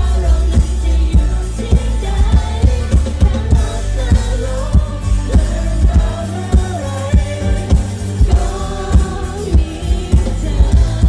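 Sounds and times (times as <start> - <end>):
bass: 0.0 - 11.0
electric guitars: 0.0 - 11.0
person singing: 0.0 - 11.0.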